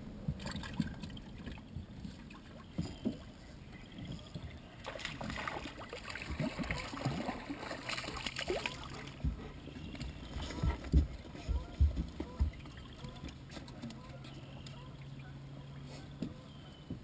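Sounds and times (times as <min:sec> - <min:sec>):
water and wind around hull: 0:00.0 - 0:17.0.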